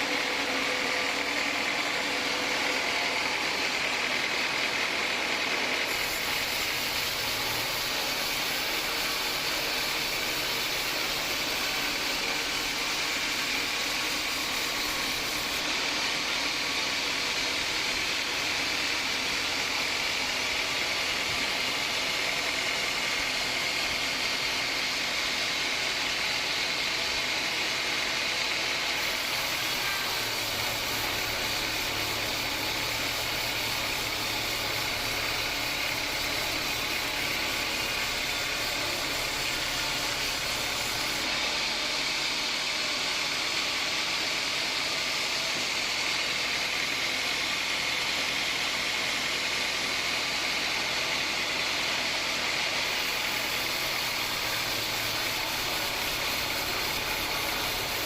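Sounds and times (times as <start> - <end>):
band saw whining: 0.0 - 58.0.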